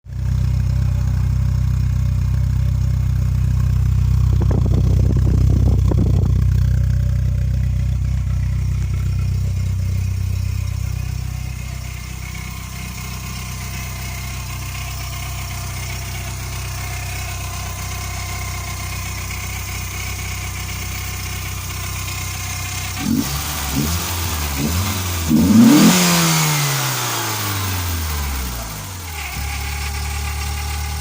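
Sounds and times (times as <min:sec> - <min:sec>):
car engine idling: 0:00.1 - 0:31.0.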